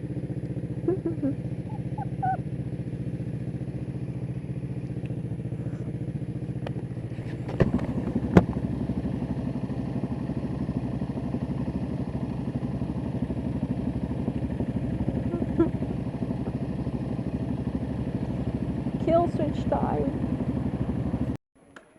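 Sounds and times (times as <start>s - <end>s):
motorcycle engine running: 0.0s - 21.4s.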